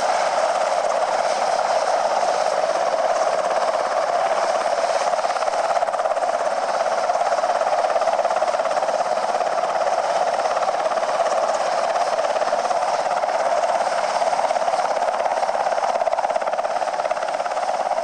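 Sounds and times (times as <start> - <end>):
helicopter running: 0.0 - 18.0.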